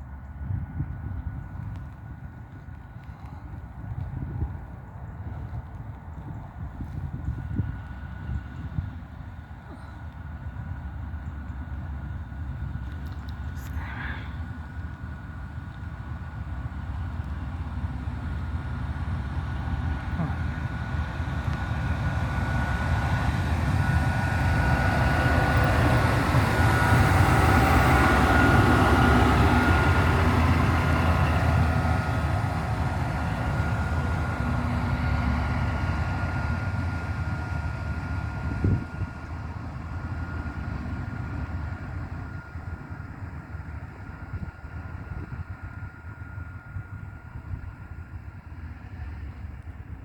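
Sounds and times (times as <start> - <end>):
diesel locomotive passing: 0.0 - 50.0.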